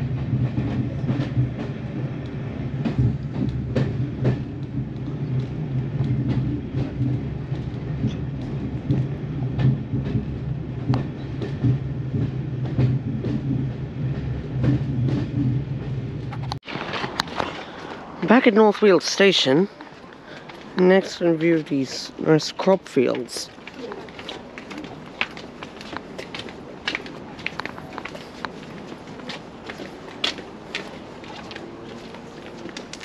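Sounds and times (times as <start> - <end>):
train running with low drone: 0.0 - 16.6, 17.8 - 33.0.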